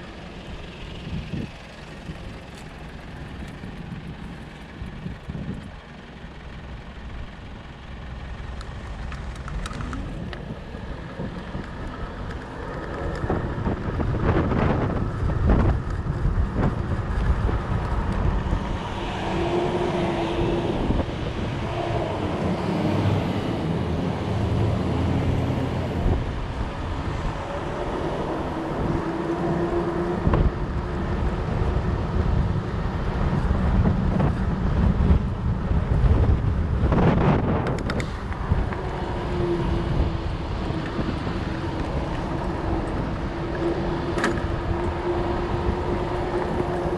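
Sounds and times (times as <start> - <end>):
wind buffeting microphone: 0.0 - 5.9, 8.9 - 46.9
bike tyres rumbling: 0.0 - 46.9.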